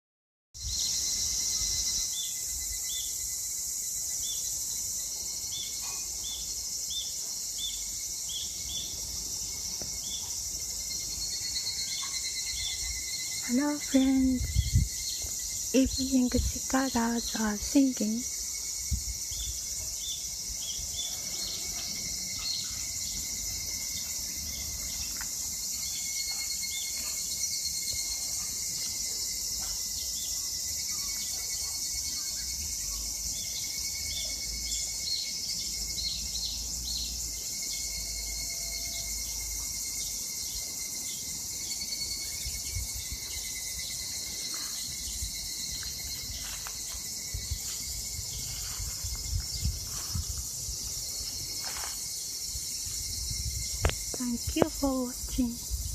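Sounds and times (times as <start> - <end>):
cicadas singing: 0.6 - 55.9.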